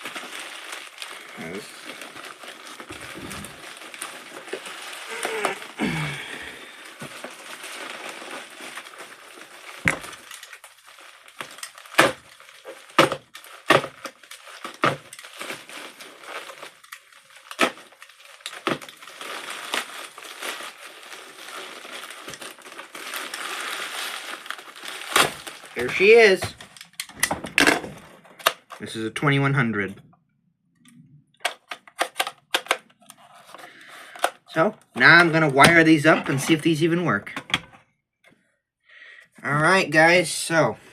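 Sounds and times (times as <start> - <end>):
plastic and cardboard rustling: 0.0 - 29.0, 31.4 - 37.8.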